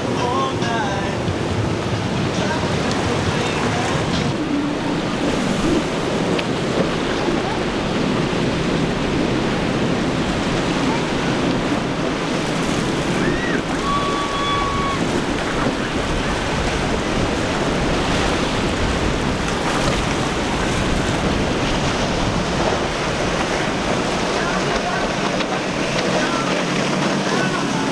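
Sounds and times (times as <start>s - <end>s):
breaking surf: 0.0s - 27.9s
outboard motors running: 0.0s - 27.9s
wind on microphone: 0.0s - 27.9s.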